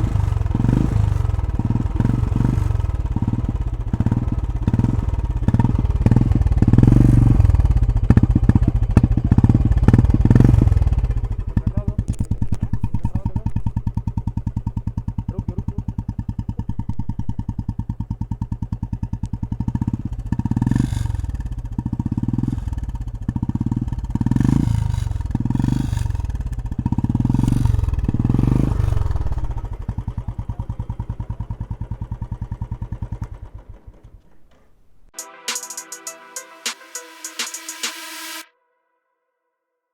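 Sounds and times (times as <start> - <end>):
motorcycle engine revving and idling: 0.0 - 34.9.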